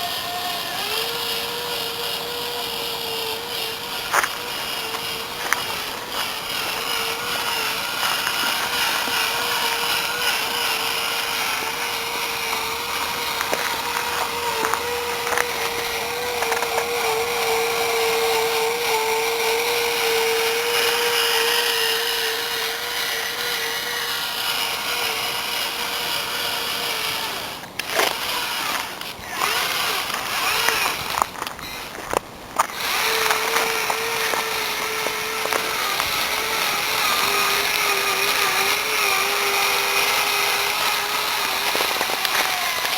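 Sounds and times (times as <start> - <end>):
short spurts and clicks: 0.0 - 42.9
toy truck motor whining: 0.0 - 42.9.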